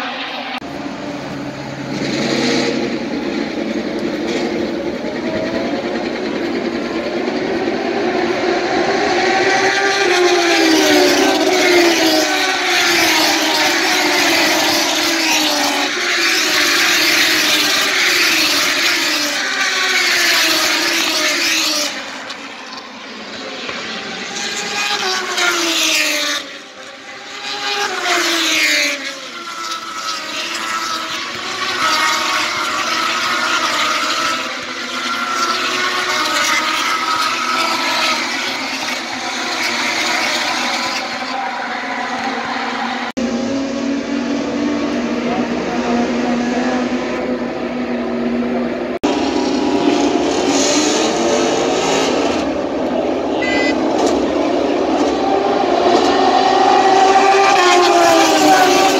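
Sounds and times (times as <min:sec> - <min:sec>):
racing motorcycles passing at high revs: 0:00.0 - 0:58.9.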